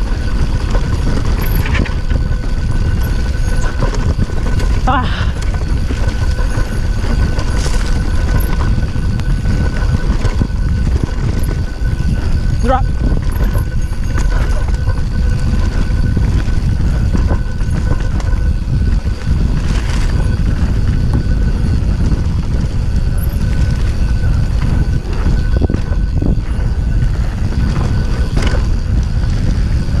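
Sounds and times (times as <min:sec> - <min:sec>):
bike rattling over rough ground: 0:00.0 - 0:30.0
wind buffeting microphone: 0:00.0 - 0:30.0.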